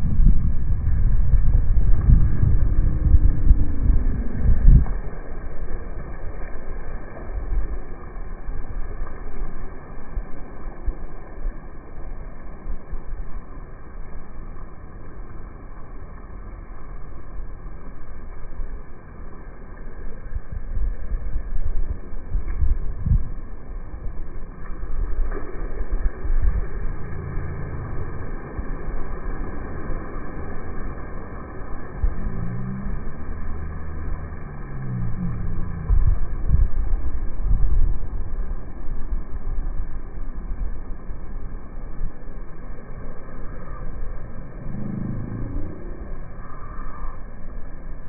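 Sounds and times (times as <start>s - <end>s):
wind buffeting microphone: 0.0s - 14.2s, 15.1s - 48.0s
surf washing on shore: 0.0s - 48.0s.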